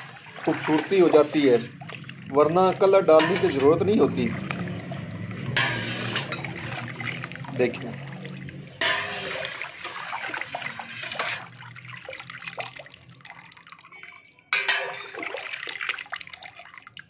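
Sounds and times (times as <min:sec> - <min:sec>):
syrup splashing: 0:00.0 - 0:14.0, 0:14.6 - 0:17.0.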